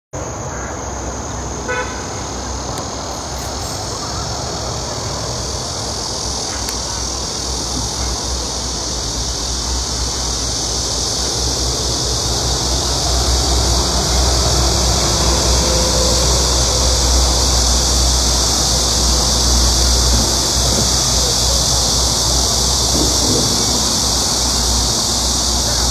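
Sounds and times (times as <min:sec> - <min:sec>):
high-pitched hiss: 0:00.2 - 0:25.9
wind rumble on microphone: 0:04.7 - 0:25.9.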